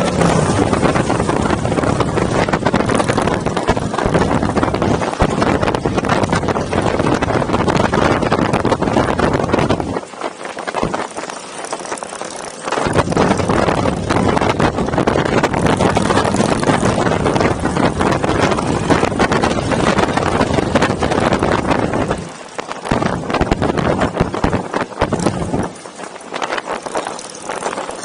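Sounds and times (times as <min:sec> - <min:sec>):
road and engine noise: 0:00.0 - 0:28.0
wind buffeting microphone: 0:00.0 - 0:28.0.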